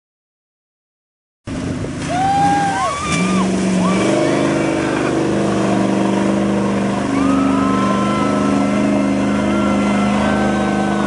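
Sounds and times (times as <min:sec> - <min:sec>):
mud and water churning: 0:01.5 - 0:11.0.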